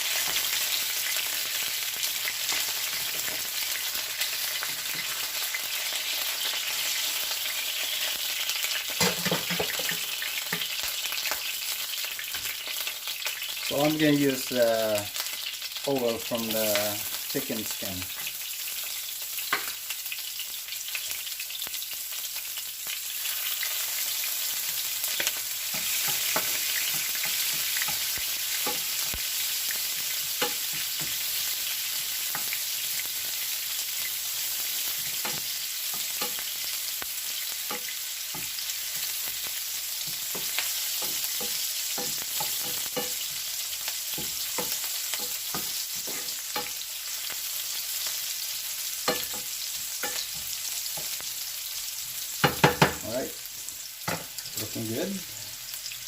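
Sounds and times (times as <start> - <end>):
garlic and onions sizzling in a pan: 0.0 - 56.0.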